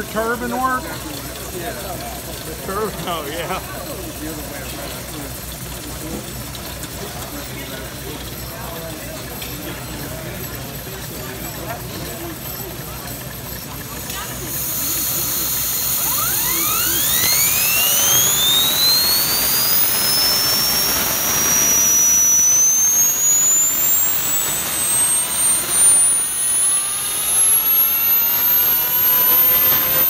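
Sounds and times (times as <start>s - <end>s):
model turbine whine rising: 0.0s - 30.0s.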